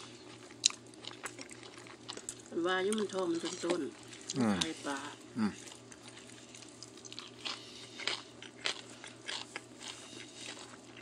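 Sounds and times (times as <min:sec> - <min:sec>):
person chewing and crunching food: 0:00.0 - 0:11.0.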